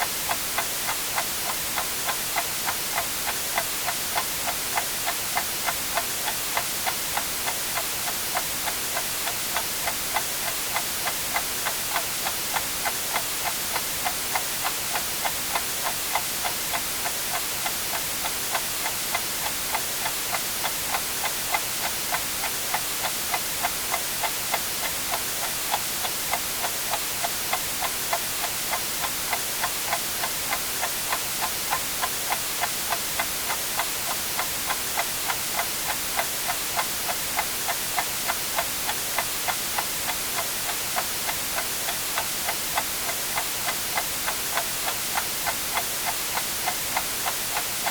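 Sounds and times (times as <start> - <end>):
white noise hiss: 0.0 - 47.9.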